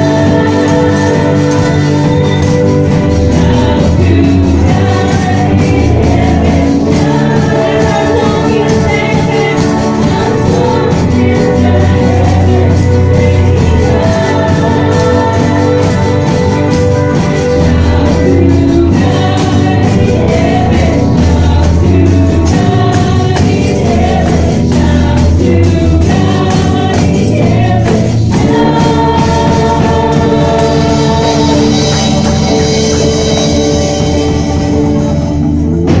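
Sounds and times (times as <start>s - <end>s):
gospel singing: 0.0s - 36.0s.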